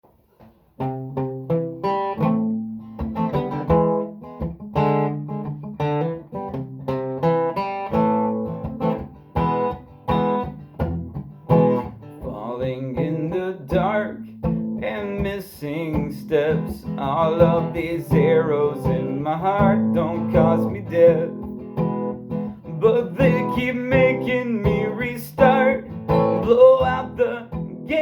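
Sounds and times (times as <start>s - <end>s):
acoustic guitar plucking: 0.2s - 28.0s.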